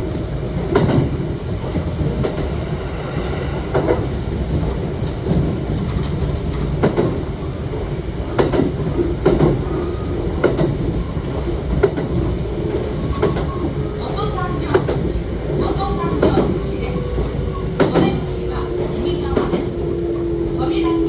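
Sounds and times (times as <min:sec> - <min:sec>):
rail joint clicks and knocks: 0:00.0 - 0:21.0
wheels rumbling on rail: 0:00.0 - 0:21.0.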